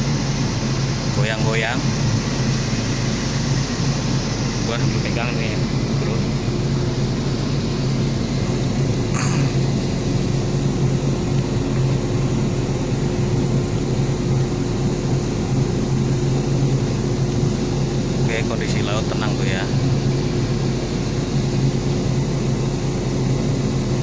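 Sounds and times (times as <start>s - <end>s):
ship engine droning: 0.0s - 24.0s.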